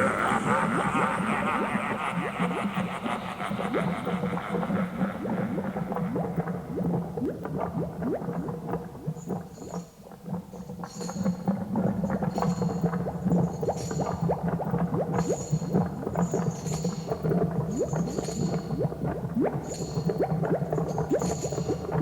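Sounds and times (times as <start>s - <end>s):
bubbling gurgling blips: 0.0s - 22.0s.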